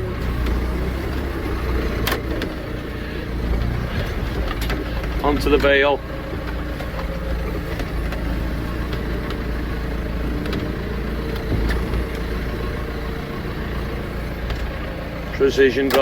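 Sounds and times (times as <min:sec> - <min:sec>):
tractor engine humming: 0:00.0 - 0:16.0
faint clicks and knocks: 0:00.2 - 0:16.0.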